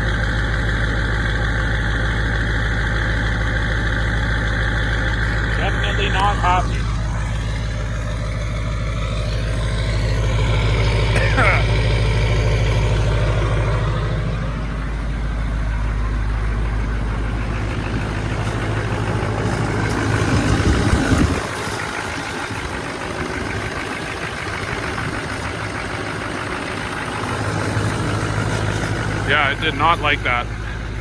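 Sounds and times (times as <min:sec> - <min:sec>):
diesel engine idling rough: 0:00.0 - 0:31.0.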